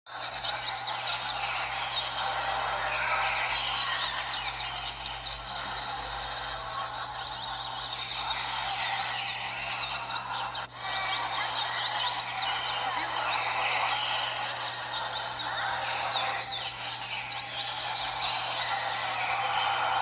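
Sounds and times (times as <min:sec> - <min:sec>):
chorus of birds chirping: 0:00.1 - 0:20.0.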